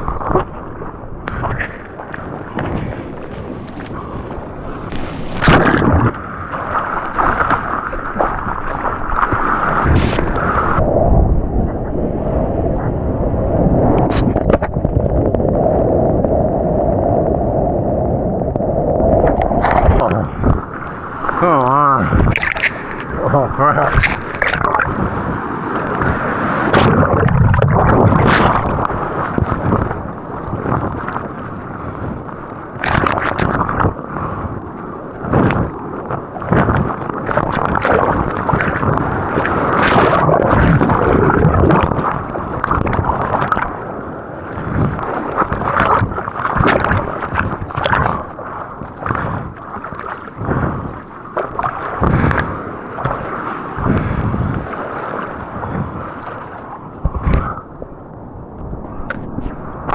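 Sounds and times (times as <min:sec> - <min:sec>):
surf water splashing: 0:00.0 - 0:59.9
wind buffeting: 0:00.0 - 0:59.9.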